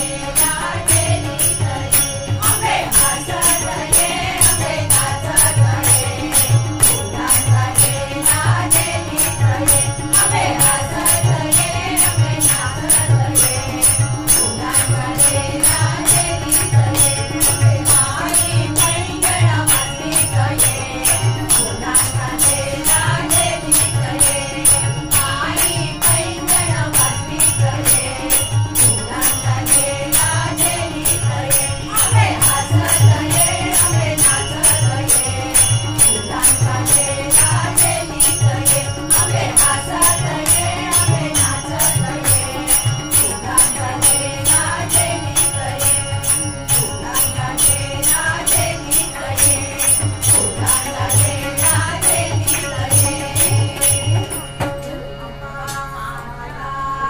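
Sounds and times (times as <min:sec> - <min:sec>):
group singing devotional song: 0:00.0 - 0:54.7
jingling beat: 0:00.0 - 0:55.0
harmonium: 0:00.0 - 0:57.0
tabla: 0:00.0 - 0:57.0.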